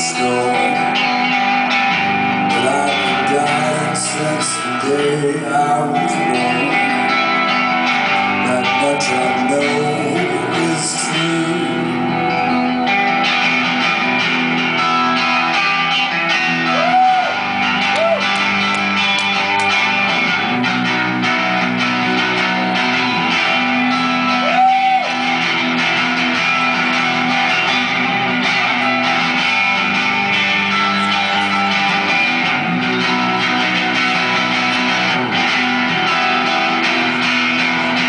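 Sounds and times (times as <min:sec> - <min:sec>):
bending guitar notes: 0:00.0 - 0:38.0
live band instrumental: 0:00.0 - 0:38.0.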